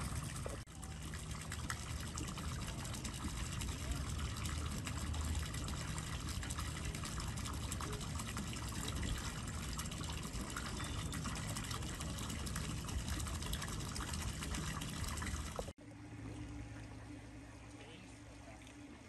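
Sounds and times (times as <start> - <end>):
water splashing into lake: 0.0 - 15.8
faint low hum: 0.0 - 19.0.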